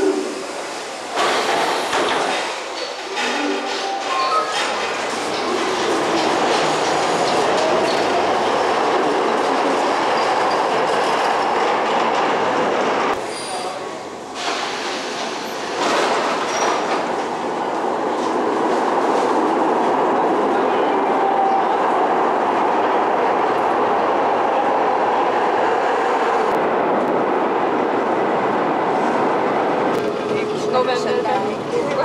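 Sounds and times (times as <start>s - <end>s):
rail vehicle rolling on track: 0.0s - 32.0s.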